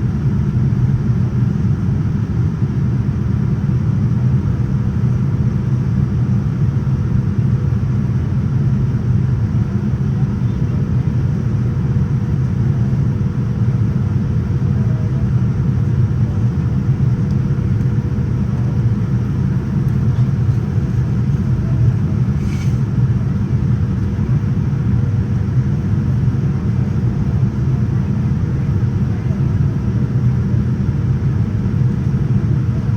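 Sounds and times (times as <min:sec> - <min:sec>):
aircraft cabin engine rumble: 0:00.0 - 0:32.9
faint steady hum: 0:00.0 - 0:32.9.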